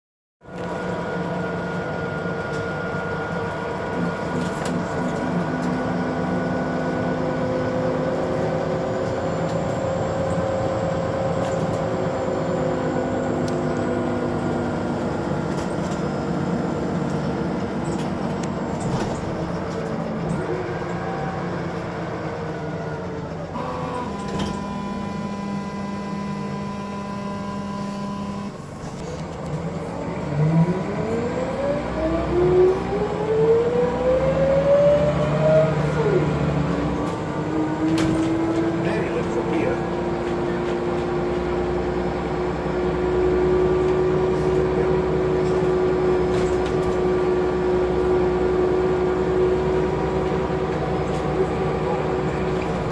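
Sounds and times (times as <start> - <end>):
bus diesel engine: 0.4 - 52.9.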